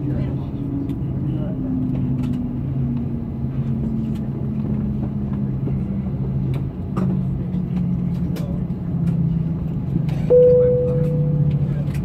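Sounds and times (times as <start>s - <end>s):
airplane cabin hum: 0.0s - 12.0s.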